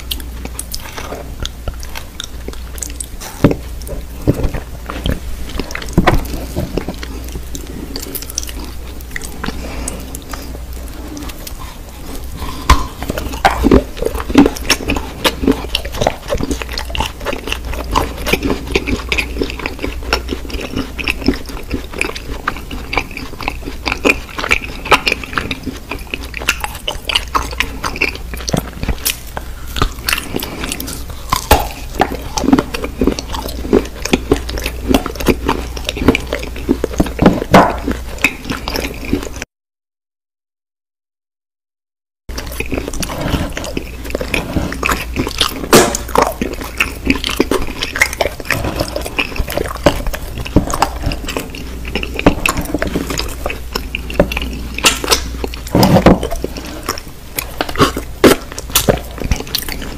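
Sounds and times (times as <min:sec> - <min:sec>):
low steady hum: 0:00.0 - 0:39.4, 0:42.3 - 0:59.9
biting and chewing mouth sounds: 0:00.0 - 0:39.5, 0:42.3 - 0:59.9.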